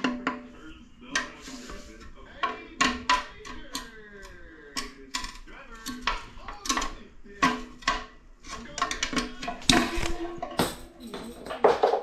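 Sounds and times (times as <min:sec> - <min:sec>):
metal parts clanking: 0:00.0 - 0:12.0.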